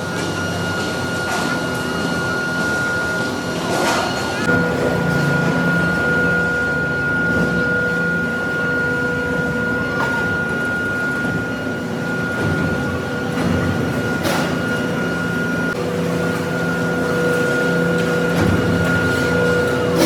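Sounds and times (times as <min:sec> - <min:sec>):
industrial machinery droning: 0:00.0 - 0:20.0.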